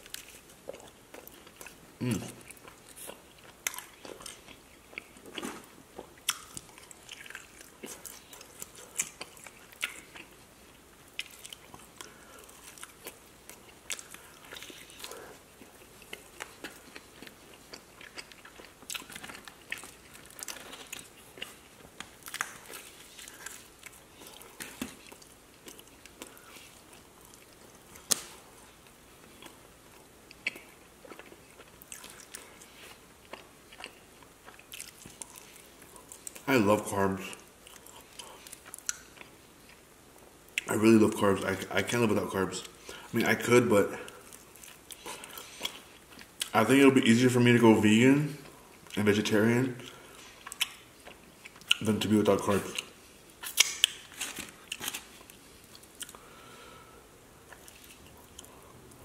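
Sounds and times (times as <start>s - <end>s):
person chewing and biting food: 0.0s - 36.4s, 37.3s - 40.7s, 44.1s - 46.5s, 49.8s - 51.8s, 52.6s - 56.5s, 57.4s - 59.0s.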